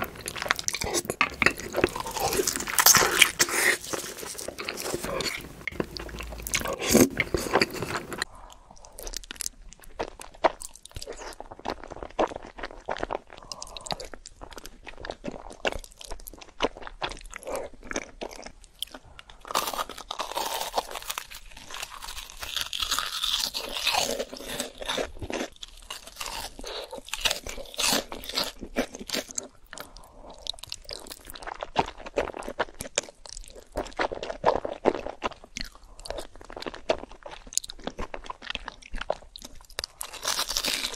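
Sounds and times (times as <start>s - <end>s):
chewing: 0.0s - 40.9s
crunching fried food: 0.0s - 40.9s.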